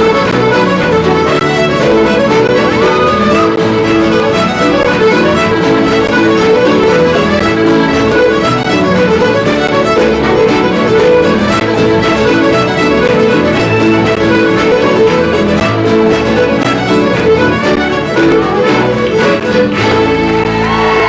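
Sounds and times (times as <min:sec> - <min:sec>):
fiddle music with accompaniment: 0:00.0 - 0:21.0.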